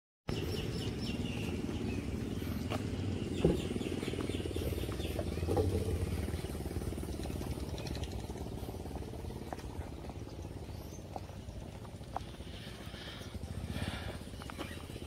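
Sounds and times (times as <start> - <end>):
birds chirping: 0.3 - 15.0
small boat engine chugging: 0.3 - 15.0.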